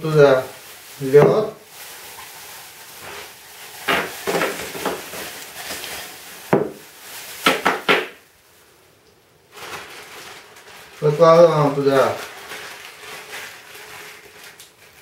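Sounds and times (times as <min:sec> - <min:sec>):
plastic bag rustling: 0:00.0 - 0:08.8, 0:09.4 - 0:15.0
ice cubes clinking in bag: 0:00.2 - 0:08.2, 0:09.5 - 0:15.0.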